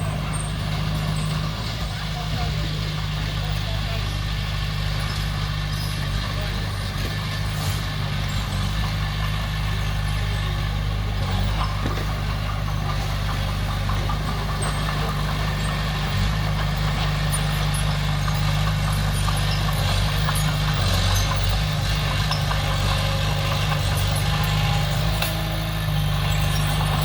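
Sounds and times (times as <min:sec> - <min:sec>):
diesel engine of heavy machinery: 0:00.0 - 0:27.0.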